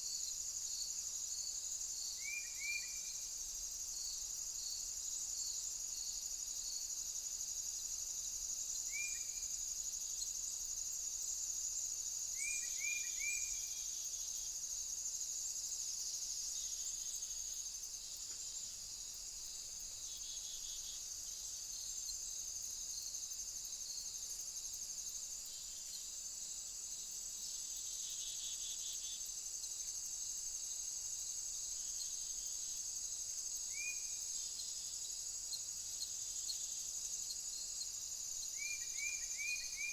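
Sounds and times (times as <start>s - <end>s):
crickets trilling: 0.1s - 39.9s.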